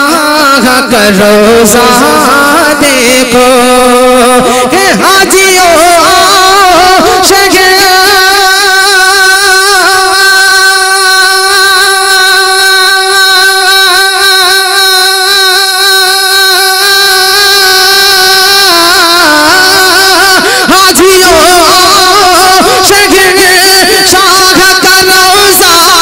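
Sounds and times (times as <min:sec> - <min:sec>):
man singing through loudspeaker: 0:00.0 - 0:26.0.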